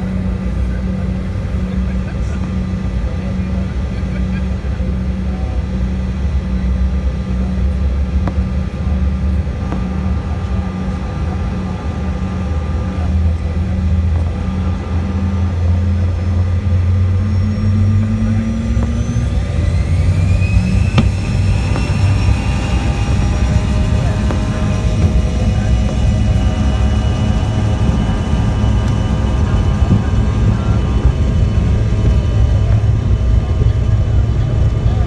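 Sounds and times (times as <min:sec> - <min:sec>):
jet engines droning and spooling up: 0:00.0 - 0:35.0.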